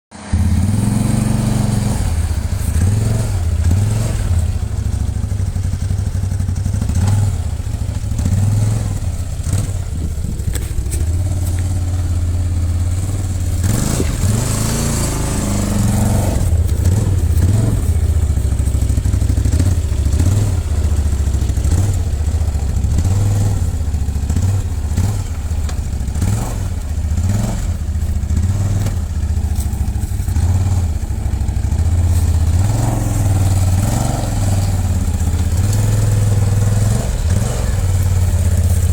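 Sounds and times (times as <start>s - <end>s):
clatter: 0.1s - 38.9s
dirt bike engines revving: 0.2s - 38.9s.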